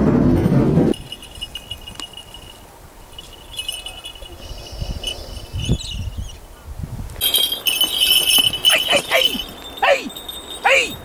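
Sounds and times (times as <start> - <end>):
small bells jingling: 0.4 - 6.4, 7.2 - 11.0.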